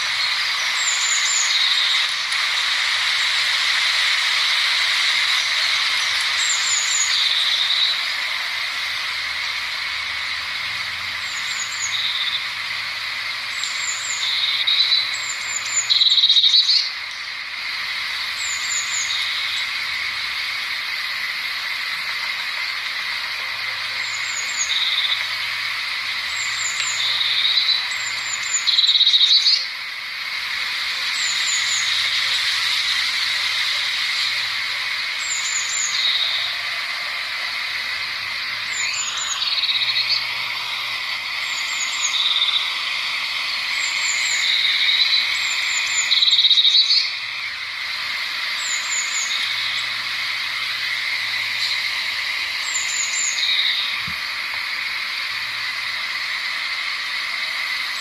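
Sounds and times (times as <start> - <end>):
bird singing with buzzy trills: 0.0 - 58.0
steady high hiss: 0.0 - 58.0.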